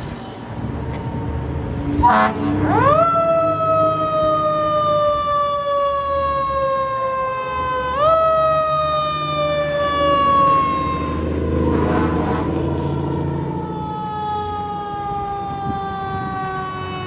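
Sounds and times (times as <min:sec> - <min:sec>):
truck engine rumbling: 0:00.0 - 0:05.1, 0:07.7 - 0:17.0
fire truck siren wailing: 0:00.9 - 0:17.0.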